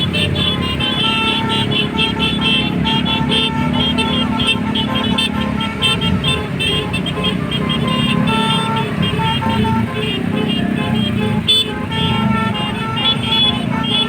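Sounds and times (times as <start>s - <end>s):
bus engine running: 0.0s - 14.0s
multi-tone bus horn playing tune: 0.0s - 14.0s.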